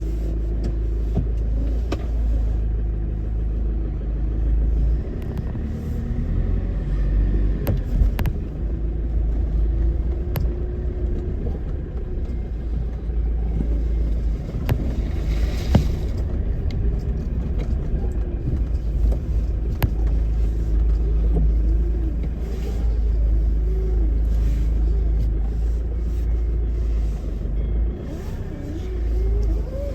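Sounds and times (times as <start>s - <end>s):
car engine deep rumble: 0.0s - 29.9s.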